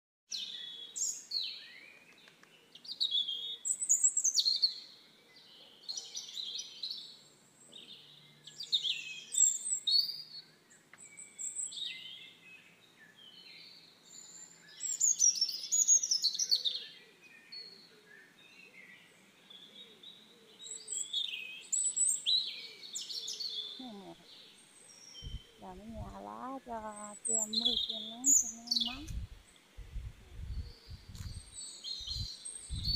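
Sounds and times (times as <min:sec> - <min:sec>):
songbirds singing: 0:00.3 - 0:32.9.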